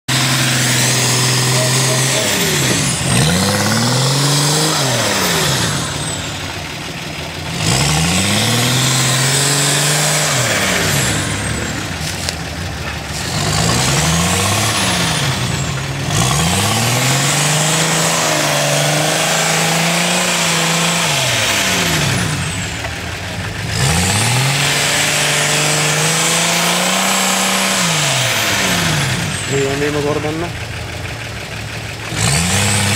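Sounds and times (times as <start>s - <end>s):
diesel engine revving: 0.0s - 32.9s.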